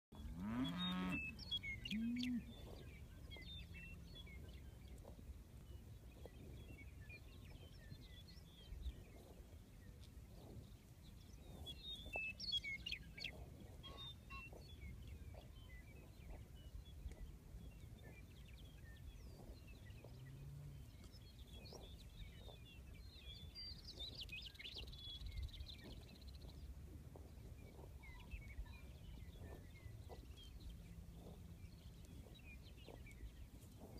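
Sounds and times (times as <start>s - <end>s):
low rural background: 0.1s - 33.9s
meadowlarks singing: 0.2s - 33.9s.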